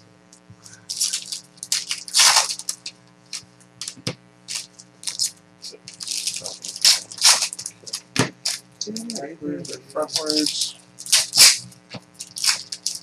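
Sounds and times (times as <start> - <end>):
card pack wrappers tearing and crinkling: 0.6 - 8.9, 9.6 - 13.0.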